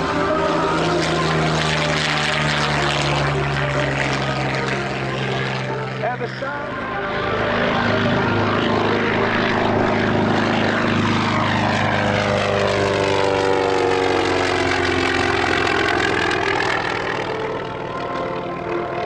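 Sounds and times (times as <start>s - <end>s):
propeller plane flyby drone: 0.0s - 19.0s.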